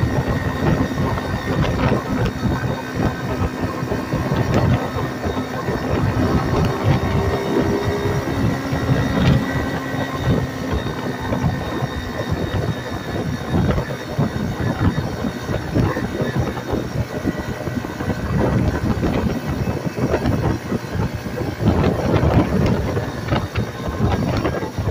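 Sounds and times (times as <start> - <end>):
road and air noise: 0.0 - 24.9
small gas engine running: 0.0 - 24.9.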